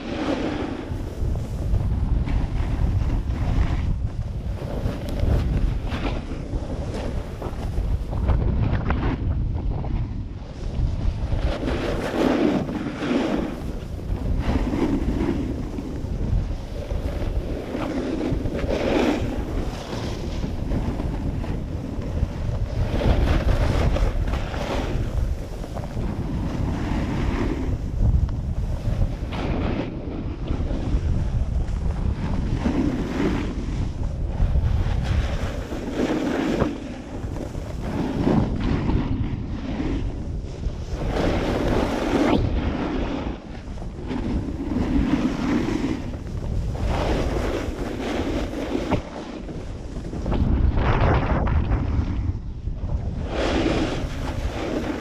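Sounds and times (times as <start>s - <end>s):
snowboard scraping across snow: 0.0s - 55.0s
wind buffeting microphone: 0.0s - 55.0s.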